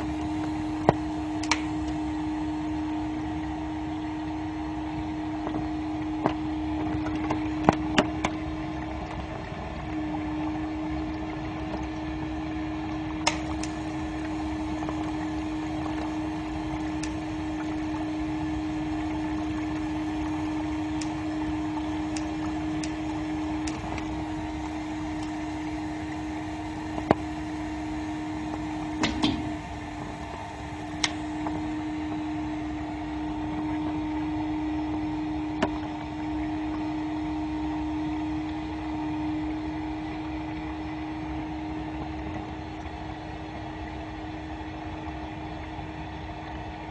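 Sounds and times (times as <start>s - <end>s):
electrical hum: 0.0s - 46.9s
faint high whine: 0.0s - 46.9s.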